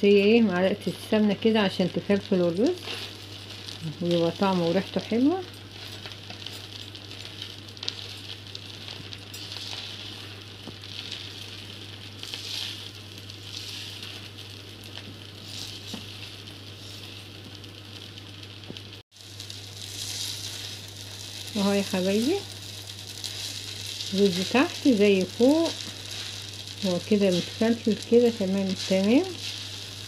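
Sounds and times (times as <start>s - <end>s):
faint sizzle: 0.0s - 30.0s
steady low hum: 0.0s - 30.0s.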